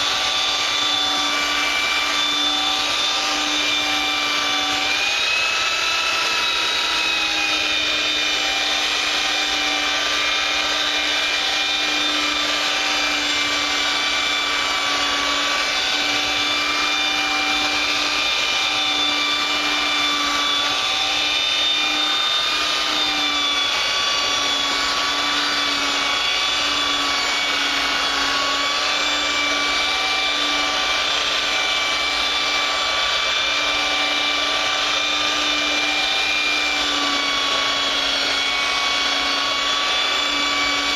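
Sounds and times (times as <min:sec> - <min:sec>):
electric sander running: 0:00.0 - 0:40.9.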